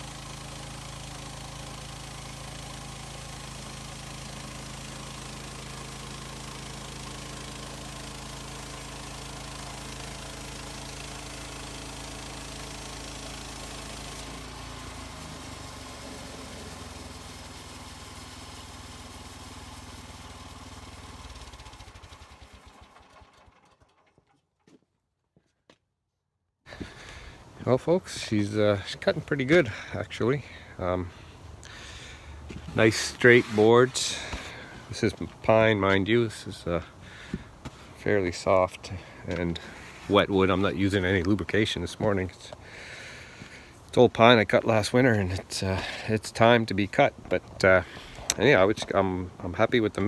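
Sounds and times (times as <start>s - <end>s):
sawmill gasoline engine running: 0.0s - 24.4s, 26.7s - 50.0s.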